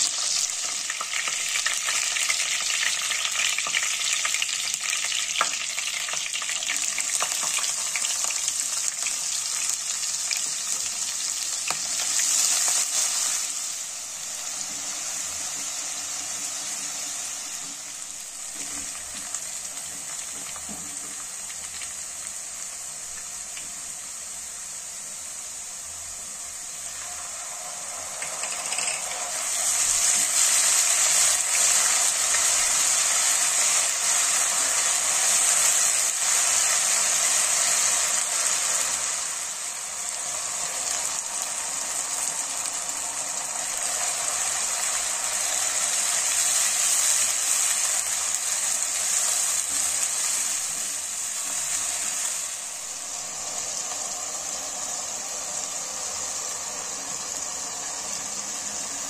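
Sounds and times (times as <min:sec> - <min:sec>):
onions sizzling in hot oil: 0:00.0 - 0:59.0.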